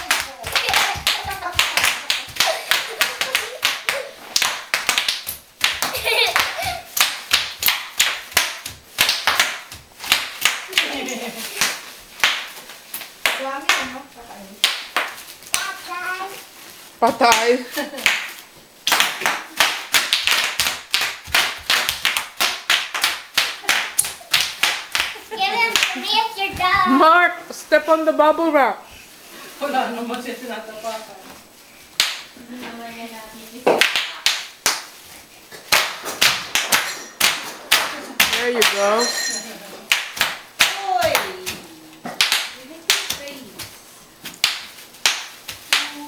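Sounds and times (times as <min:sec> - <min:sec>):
bubble wrap popping: 0:00.0 - 0:26.0, 0:33.0 - 0:38.9, 0:39.8 - 0:46.0.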